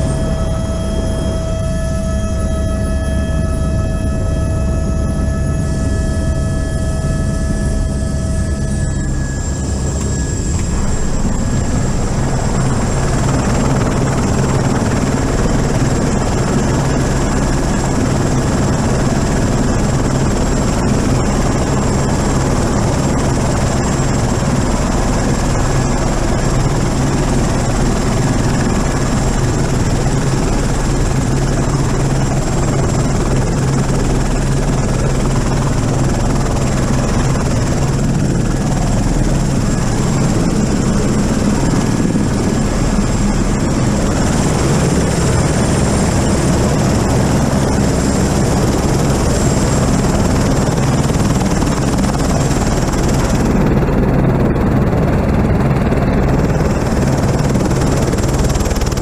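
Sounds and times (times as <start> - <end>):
helicopter rotor and engine rush: 0.0 - 59.0
helicopter turbine whine: 0.0 - 59.0.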